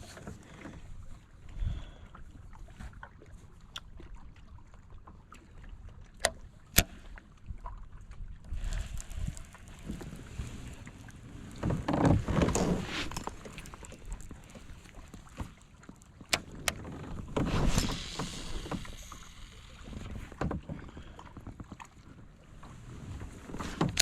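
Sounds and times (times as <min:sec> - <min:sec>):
water splashing against kayak: 0:00.0 - 0:24.0.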